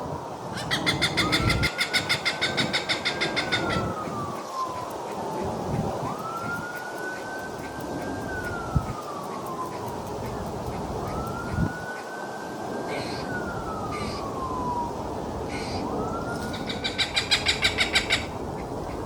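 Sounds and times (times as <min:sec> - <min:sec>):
emergency siren wailing: 0:00.0 - 0:18.6.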